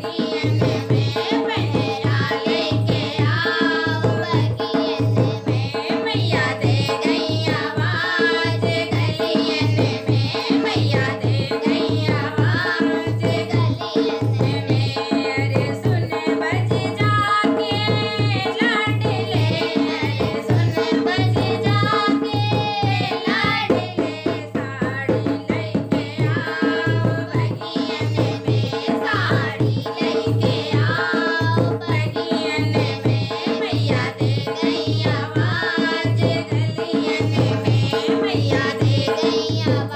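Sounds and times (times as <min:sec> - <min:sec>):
hand drum beat: 0:00.0 - 0:39.9.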